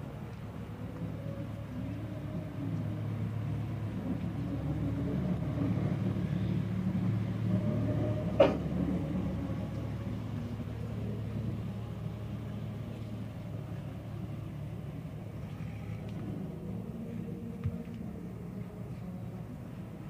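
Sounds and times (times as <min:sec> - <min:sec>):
aircraft engines droning overhead: 0:00.0 - 0:20.0.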